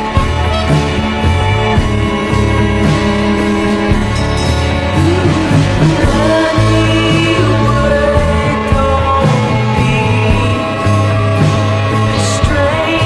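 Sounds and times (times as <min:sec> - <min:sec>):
rock song with guitar and bass: 0:00.0 - 0:13.0
person singing: 0:02.1 - 0:13.0.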